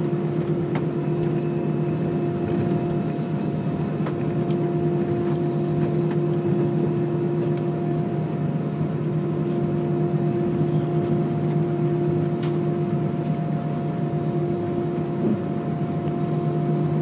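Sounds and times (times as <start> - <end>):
constant hum: 0.0 - 17.0
jet engine rushing noise in cabin: 0.0 - 17.0.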